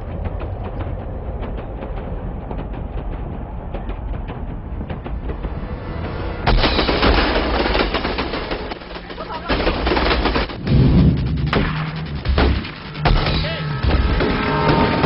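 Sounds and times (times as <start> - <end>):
loud rapid clattering: 0.0 - 15.0
music: 0.0 - 15.0.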